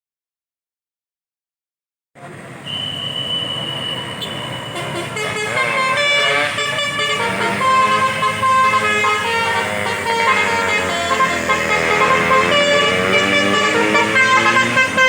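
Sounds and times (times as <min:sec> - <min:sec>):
bus horn playing a tune: 0:02.6 - 0:15.0.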